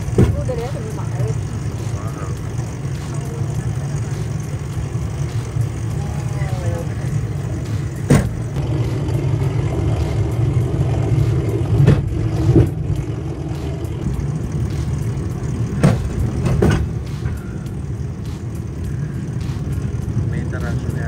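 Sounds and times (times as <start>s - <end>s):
rail bike wheels rumbling: 0.0s - 21.0s
wheels clacking over rail joints: 0.0s - 21.0s.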